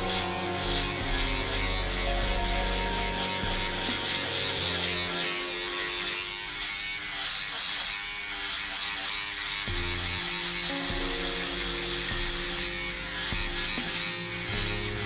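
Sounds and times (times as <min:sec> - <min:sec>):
electric hair clipper buzzing: 0:00.0 - 0:15.0.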